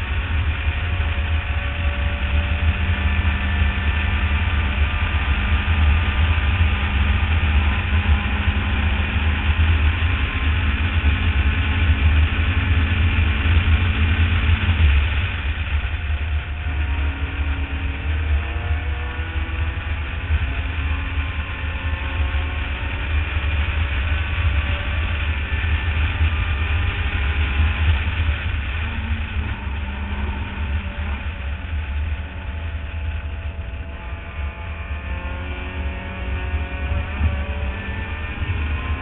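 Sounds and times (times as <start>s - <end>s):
race car engine revving: 0.0s - 39.0s
wind rumble: 0.0s - 39.0s.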